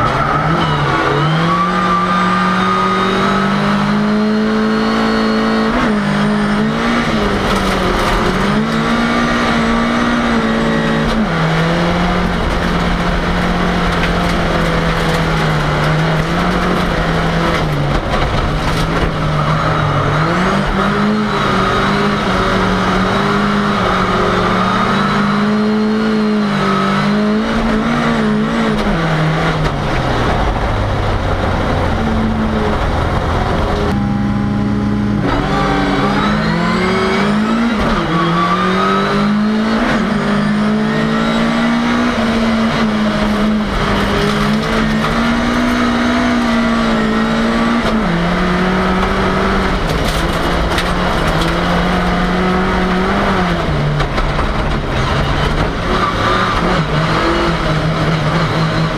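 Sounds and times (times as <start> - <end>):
race car engine revving: 0.0 - 58.9.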